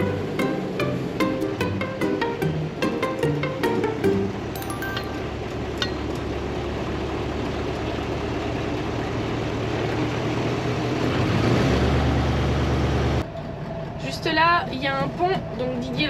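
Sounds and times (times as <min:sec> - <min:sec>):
truck diesel engine rumble: 0:00.0 - 0:04.6, 0:05.2 - 0:16.0
road noise: 0:00.0 - 0:16.0.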